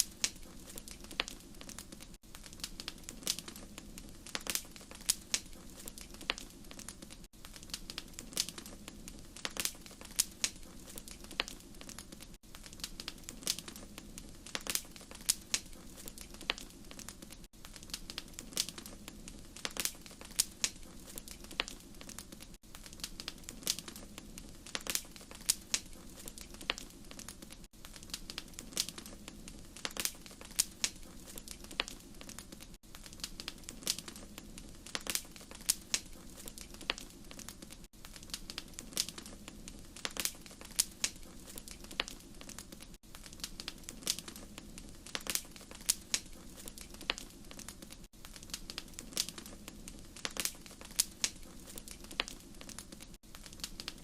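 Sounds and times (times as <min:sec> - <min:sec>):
fire popping and snapping: 0:00.0 - 0:54.0.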